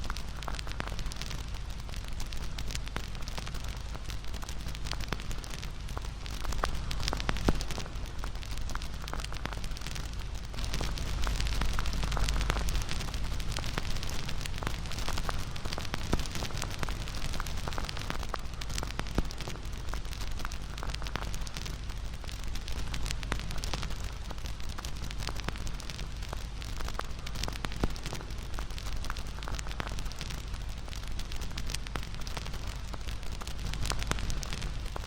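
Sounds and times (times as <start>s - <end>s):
loud fire pops: 0.0s - 35.0s
wood fire crackling and popping: 0.0s - 35.0s.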